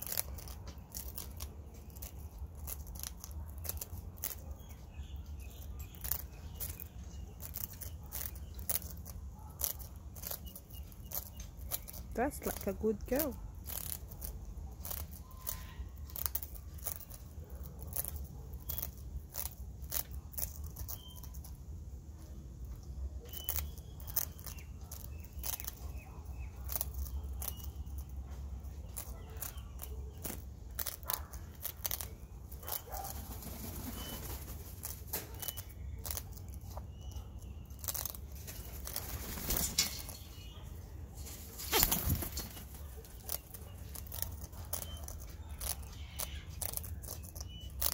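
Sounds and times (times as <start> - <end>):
parrot beak crunching biscuit: 0.0 - 40.5, 41.3 - 47.9.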